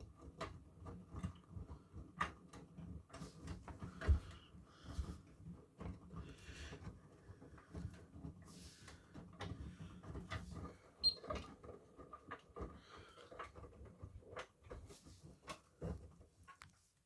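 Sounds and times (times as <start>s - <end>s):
washing machine rumble: 0.0s - 16.5s.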